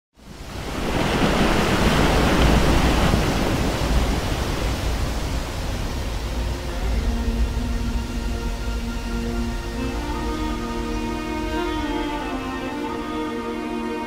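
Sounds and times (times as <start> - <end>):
water and ice rushing along hull: 0.2 - 14.0.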